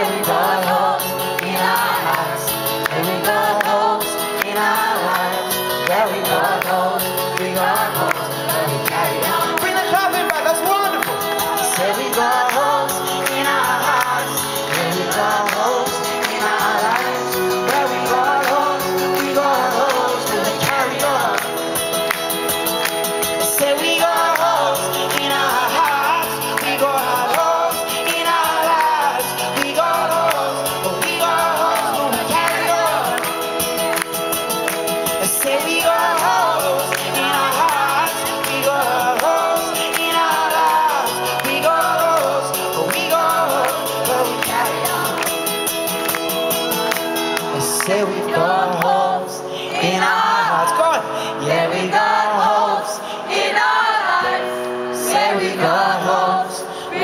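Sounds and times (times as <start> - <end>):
crowd clapping in time: 0.0 - 49.2
acoustic guitar strumming: 0.0 - 57.0
crowd singing along: 0.0 - 57.0.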